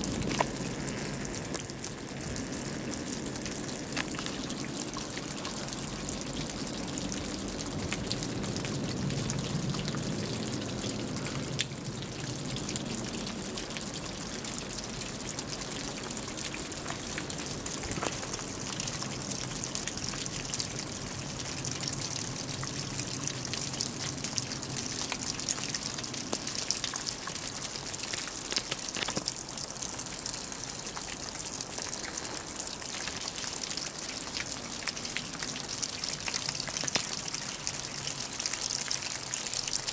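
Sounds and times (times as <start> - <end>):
meltwater dripping from roof: 0.0 - 39.9.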